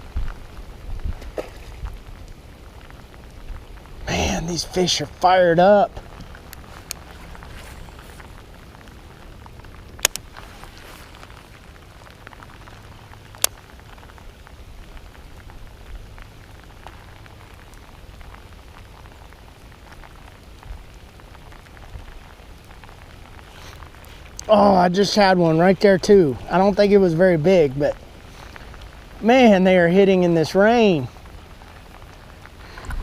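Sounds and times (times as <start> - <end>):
hard rain falling: 0.0 - 33.0.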